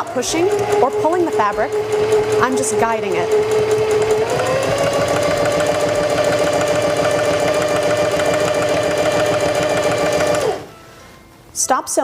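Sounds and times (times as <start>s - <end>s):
sewing machine motor whine: 0.0s - 10.7s.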